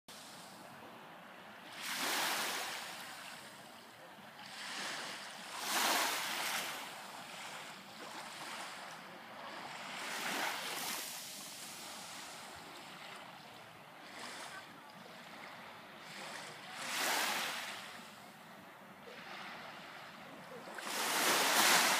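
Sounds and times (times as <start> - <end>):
small waves on sandy beach: 0.1 - 21.9.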